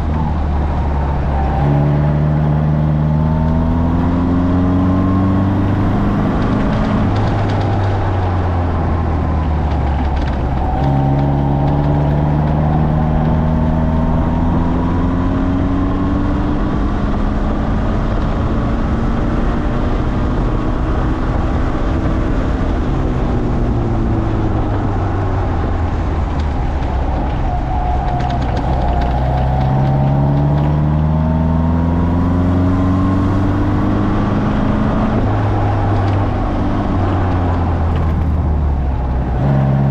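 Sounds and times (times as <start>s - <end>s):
road and wind noise: 0.0s - 39.9s
sports car engine accelerating: 0.0s - 39.9s.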